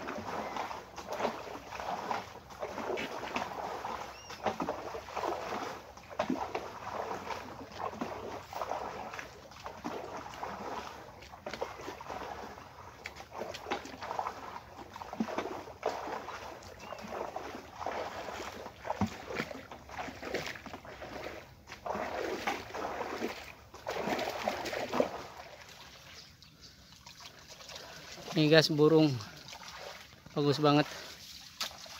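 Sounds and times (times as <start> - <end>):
muddy water splashing: 0.0 - 31.9
person wading through water: 0.0 - 31.9.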